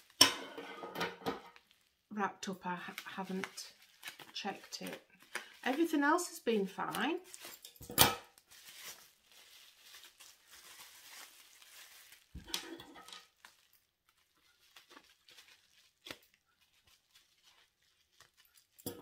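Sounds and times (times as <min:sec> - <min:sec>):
bubble wrap crinkling: 0:01.5 - 0:07.7, 0:08.3 - 0:18.9.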